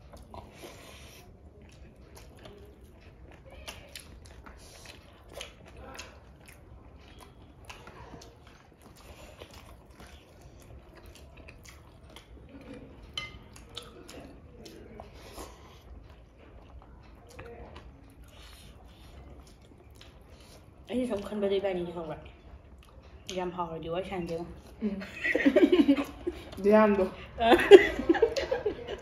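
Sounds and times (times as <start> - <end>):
people chewing and crunching food: 0.0 - 29.0.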